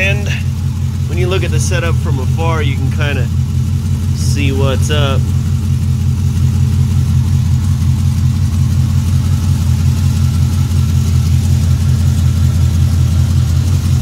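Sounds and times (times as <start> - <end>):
engine idling with loud exhaust: 0.0 - 14.0.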